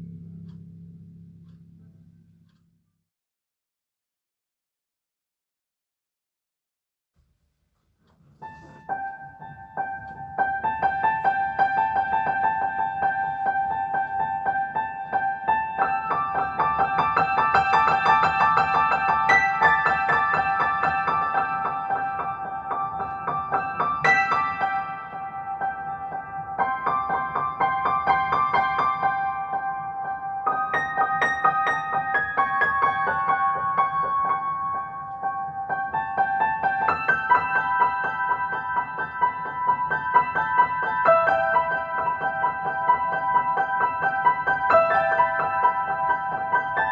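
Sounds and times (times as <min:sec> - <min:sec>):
solo piano: 0:08.1 - 0:46.9.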